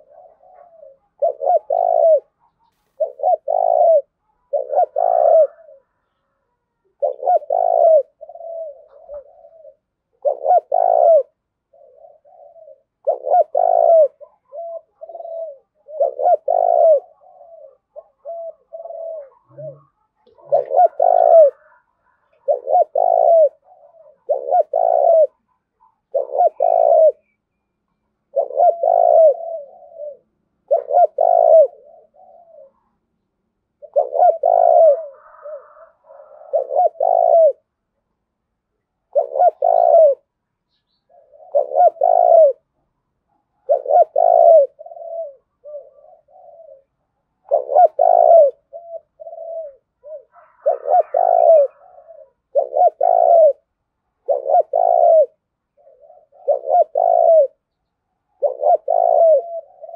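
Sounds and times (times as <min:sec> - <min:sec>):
dove cooing: 0:00.0 - 0:27.4, 0:28.0 - 0:37.8, 0:39.0 - 0:59.9.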